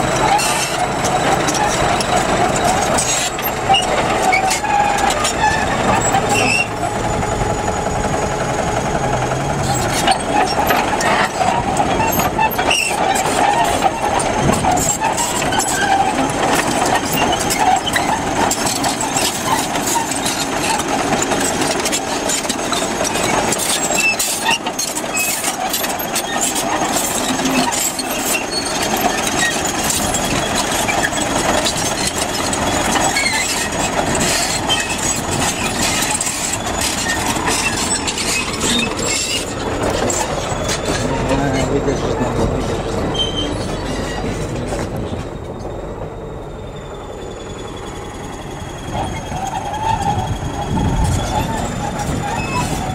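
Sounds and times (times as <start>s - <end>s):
diesel engine running: 0.0s - 52.9s
steel tracks clanking over stones: 0.0s - 52.9s.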